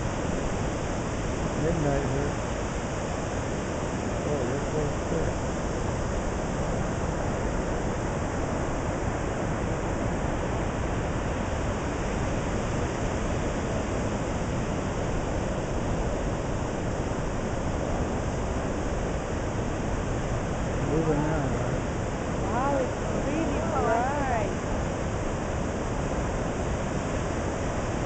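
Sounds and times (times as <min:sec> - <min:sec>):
ocean surf breaking: 0:00.0 - 0:28.0.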